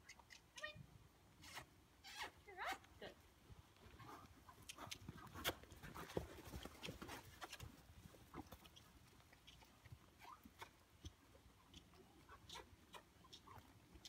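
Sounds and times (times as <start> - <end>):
horse hooves on soft dirt: 2.7 - 14.0.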